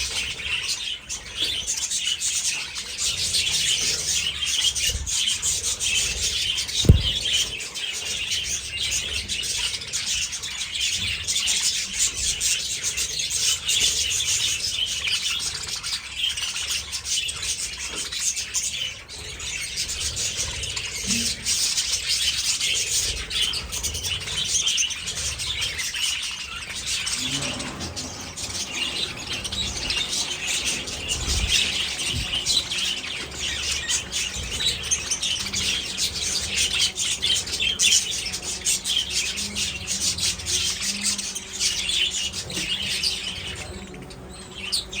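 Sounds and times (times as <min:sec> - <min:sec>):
budgerigars chirping: 0:00.0 - 0:12.3, 0:15.2 - 0:45.0.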